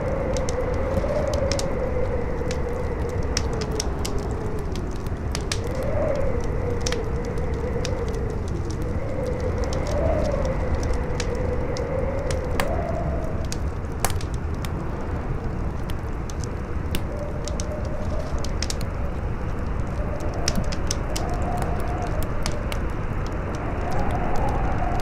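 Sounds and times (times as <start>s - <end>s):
campfire crackling and popping: 0.0s - 25.0s
wavering howl in wind: 0.0s - 25.0s
wind with low rumble: 0.0s - 25.0s.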